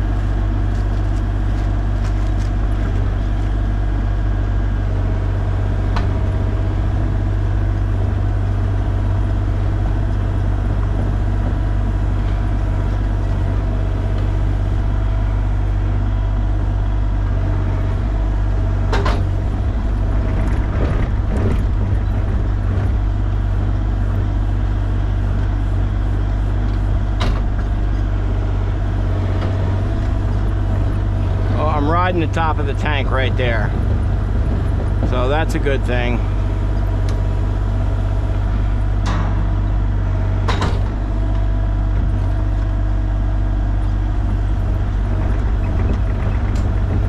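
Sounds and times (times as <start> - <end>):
excavator engine running: 0.0 - 47.0.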